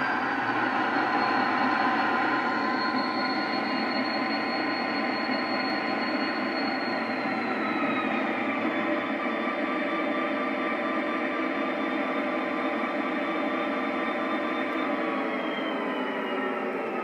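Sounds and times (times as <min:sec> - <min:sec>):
diesel engine through small speakers: 0:00.0 - 0:17.0
high turbo whine: 0:00.0 - 0:17.0.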